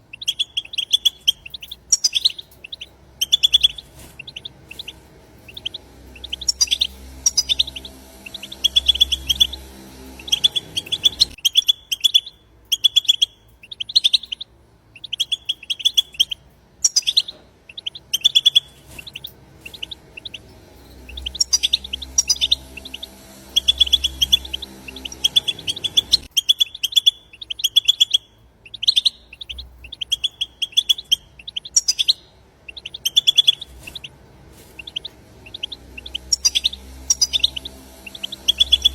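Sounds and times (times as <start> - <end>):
faint low hum: 0.0 - 38.9
goldfinch twittering: 0.2 - 14.4, 15.0 - 34.1, 34.8 - 38.9.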